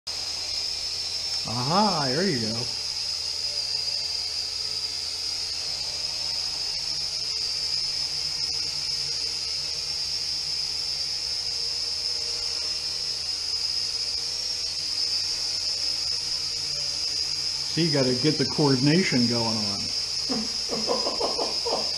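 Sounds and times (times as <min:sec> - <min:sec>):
drone motors whining: 0:00.1 - 0:21.9.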